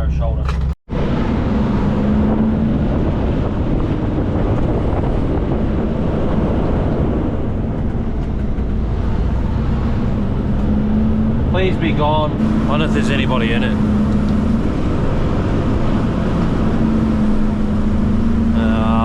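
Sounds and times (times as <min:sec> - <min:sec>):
diesel truck engine: 0:00.0 - 0:19.0
low hum: 0:00.0 - 0:19.0
road noise: 0:00.0 - 0:19.0.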